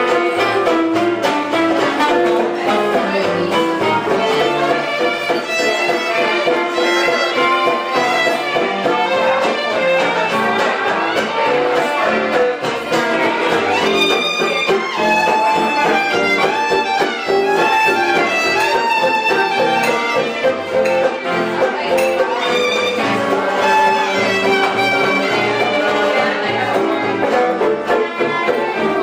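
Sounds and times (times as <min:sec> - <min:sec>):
guitar accompaniment: 0:00.0 - 0:29.0
violin melody: 0:00.0 - 0:29.0.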